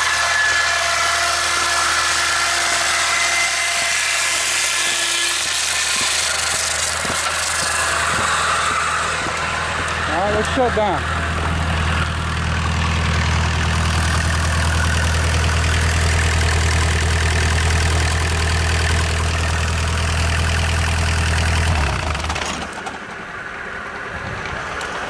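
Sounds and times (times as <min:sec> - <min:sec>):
belt and saw blades whirring: 0:00.0 - 0:25.0
engine idling: 0:00.0 - 0:25.0.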